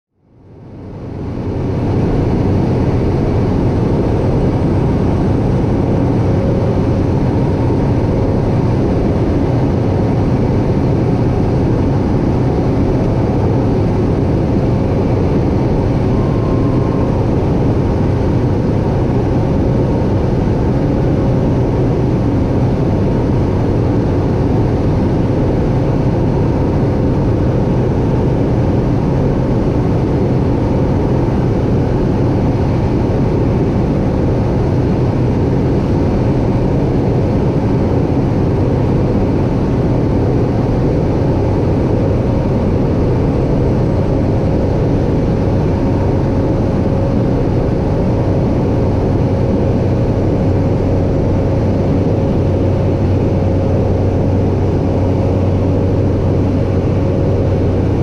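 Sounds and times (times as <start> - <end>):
turboprop cabin drone: 0.1 - 58.0.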